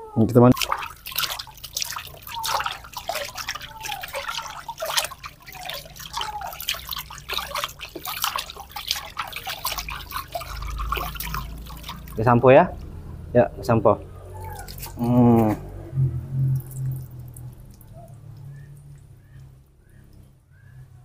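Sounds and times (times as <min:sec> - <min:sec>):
water splashing in plastic basin: 0:00.3 - 0:13.1, 0:14.3 - 0:20.4.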